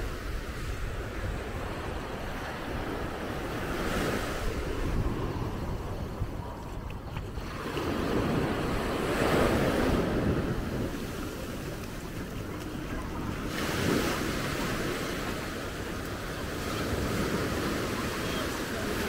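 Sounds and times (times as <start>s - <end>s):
small waves breaking on sand: 0.0s - 19.0s
wind rumbling on microphone: 0.0s - 19.0s.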